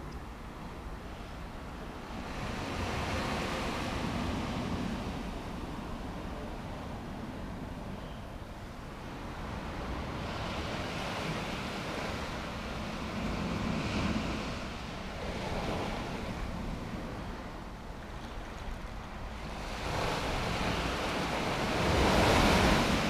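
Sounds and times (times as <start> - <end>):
ocean surf breaking: 1.9 - 7.8, 9.0 - 23.0.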